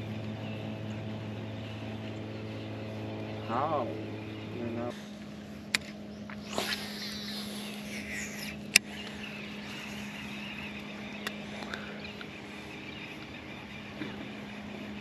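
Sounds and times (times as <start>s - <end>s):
line whirring off reel: 0.0s - 15.0s
steady low hum: 0.0s - 15.0s.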